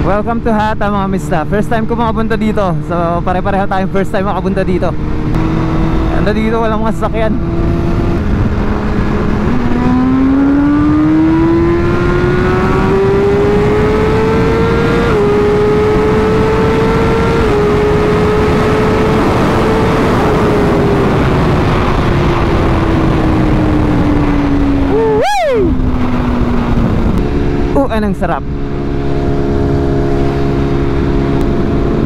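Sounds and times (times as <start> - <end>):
motorcycle engine accelerating: 0.0 - 32.0
wind noise: 0.0 - 32.0.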